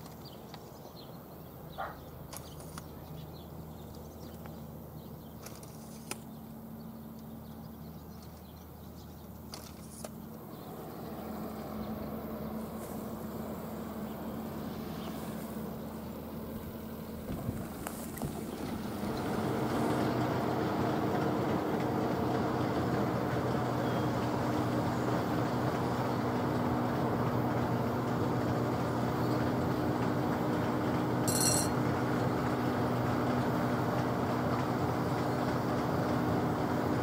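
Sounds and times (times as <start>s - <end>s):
vehicle rumble: 0.0s - 37.0s.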